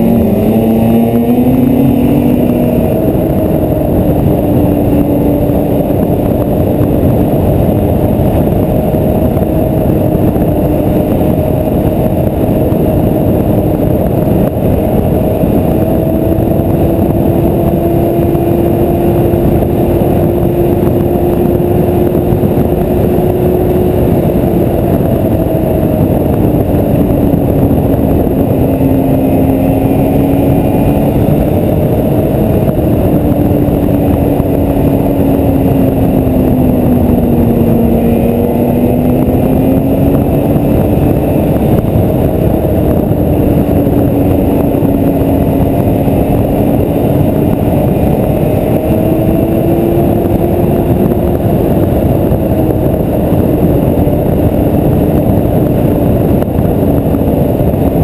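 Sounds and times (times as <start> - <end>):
loud rushing noise: 0.0 - 58.0
snowmobile engine running: 0.0 - 58.0.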